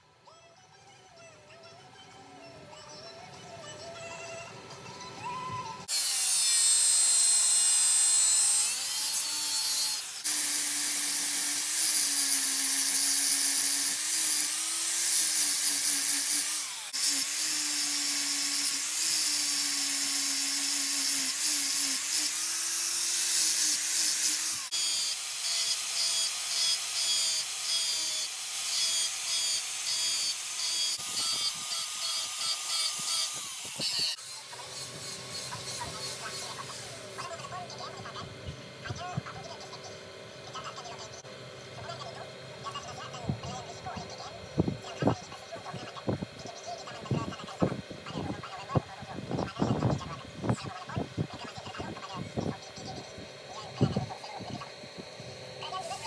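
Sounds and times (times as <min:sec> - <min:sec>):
angle grinder grinding steel: 0:05.3 - 0:56.0.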